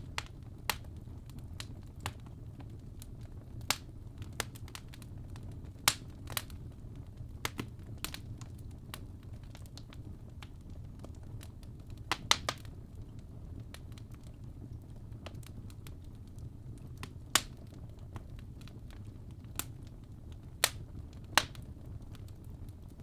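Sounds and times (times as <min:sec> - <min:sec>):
low rumble of burning: 0:00.0 - 0:23.0
wood fire pops and snaps: 0:00.0 - 0:23.0.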